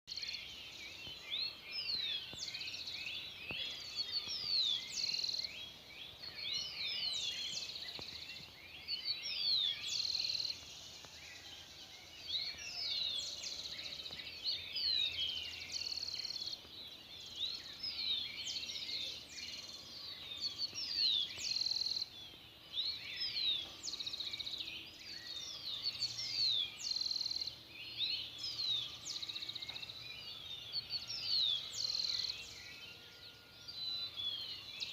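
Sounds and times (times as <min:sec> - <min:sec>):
birds chirping and whistling: 0:00.1 - 0:11.6, 0:12.3 - 0:34.9.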